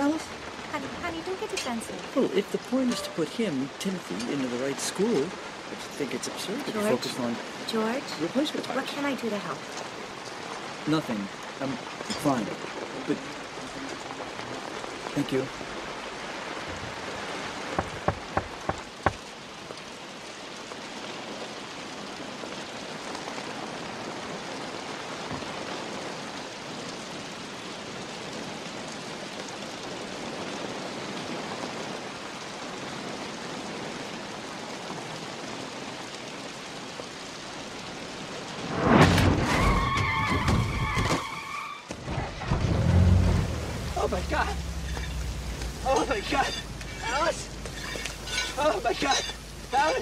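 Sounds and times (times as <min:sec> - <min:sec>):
heavy rain falling: 0:00.0 - 0:50.0.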